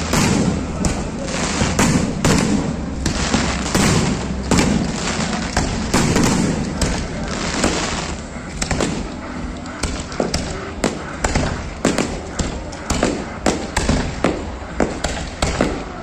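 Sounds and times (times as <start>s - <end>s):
continuous low rumble: 0.0s - 16.0s
fireworks bursting with sharp bangs: 0.0s - 16.0s.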